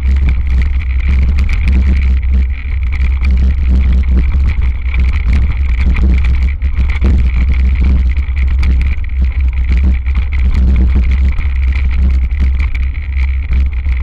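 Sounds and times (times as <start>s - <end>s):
bike rattling over bumps: 0.0s - 14.0s
wind buffeting camera: 0.0s - 14.0s.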